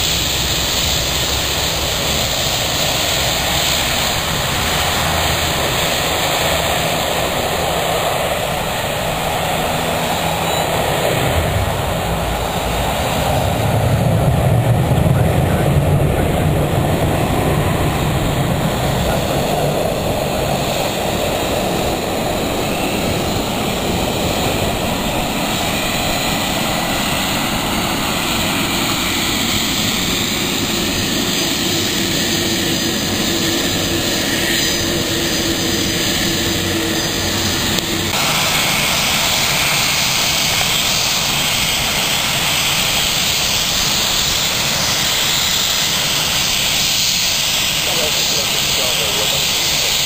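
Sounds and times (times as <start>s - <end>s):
aircraft engines rushing: 0.0s - 50.0s.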